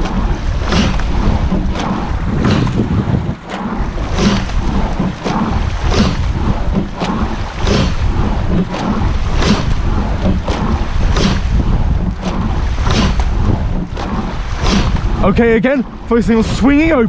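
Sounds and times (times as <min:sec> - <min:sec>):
oars knocking in gates: 0:00.0 - 0:15.8
water rushing along hull: 0:00.0 - 0:17.0
wind noise on microphone: 0:00.0 - 0:17.0.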